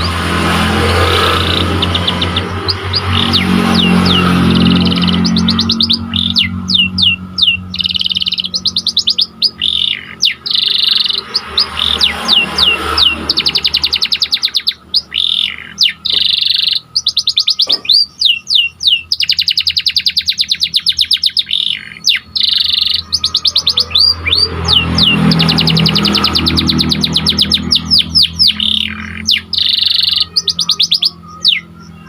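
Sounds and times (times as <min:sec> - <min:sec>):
canary singing: 0:00.0 - 0:32.0.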